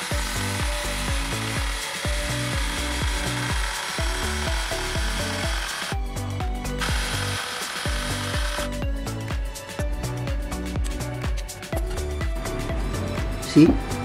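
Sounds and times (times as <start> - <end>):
electronic music with steady beat: 0.0 - 14.0.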